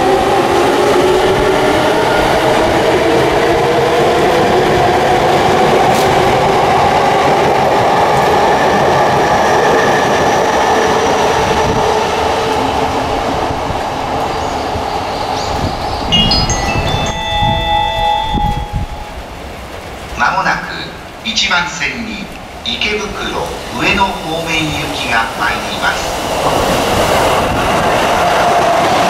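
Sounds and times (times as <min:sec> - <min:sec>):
train wheels on rails: 0:00.0 - 0:20.2, 0:22.4 - 0:29.0.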